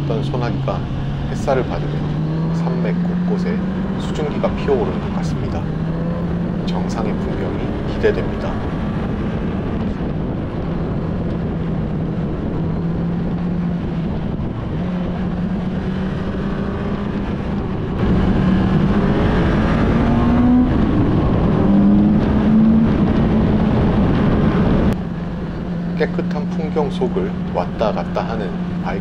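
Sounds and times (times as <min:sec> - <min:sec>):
motorcycle engine accelerating: 0:00.0 - 0:29.0
road and wind noise: 0:00.0 - 0:29.0.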